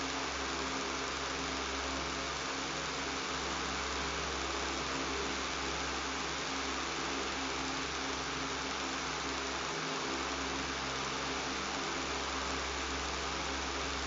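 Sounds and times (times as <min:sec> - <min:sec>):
electric fan motor humming: 0:00.0 - 0:14.0.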